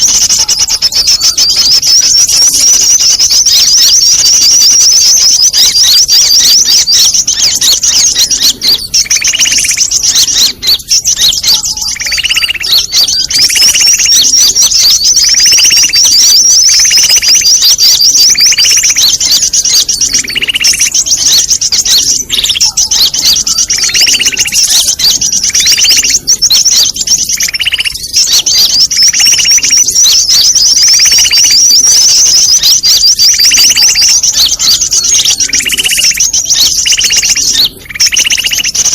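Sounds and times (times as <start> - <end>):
lower bird call: 0.0 - 38.9
small birds chattering: 0.0 - 38.9.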